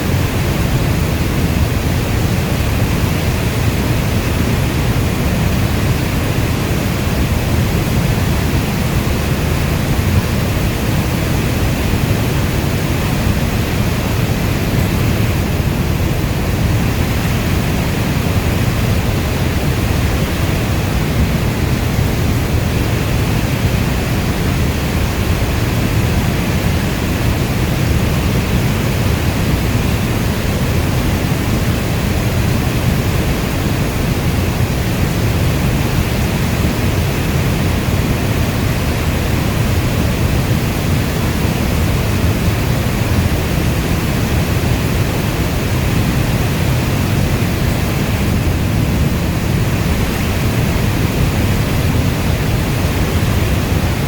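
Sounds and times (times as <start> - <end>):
heavy rainfall: 0.0 - 54.0.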